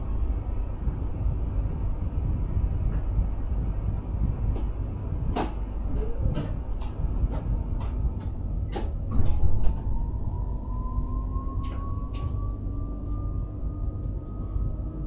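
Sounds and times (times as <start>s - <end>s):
thin whine rising in pitch: 0.0s - 15.0s
train rumble: 0.0s - 15.0s.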